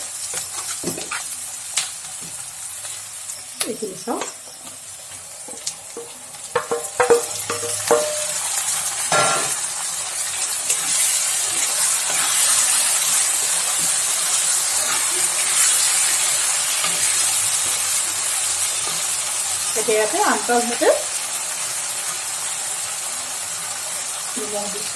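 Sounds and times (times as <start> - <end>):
chicken sizzling in oil: 0.0 - 24.9.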